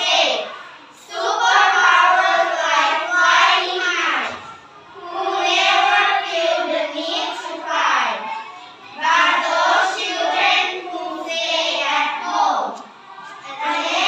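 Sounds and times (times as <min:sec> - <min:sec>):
children reciting in unison: 0:00.0 - 0:14.0.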